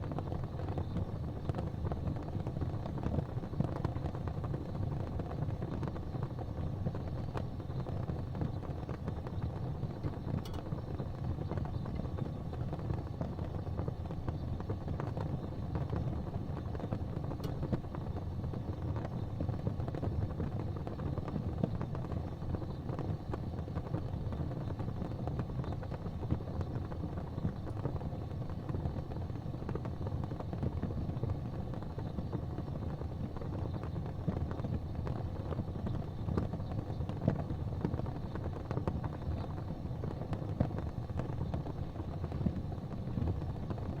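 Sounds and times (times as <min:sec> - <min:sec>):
gas fireplace flames rumbling: 0:00.0 - 0:44.0
small ticks and pops: 0:00.0 - 0:44.0.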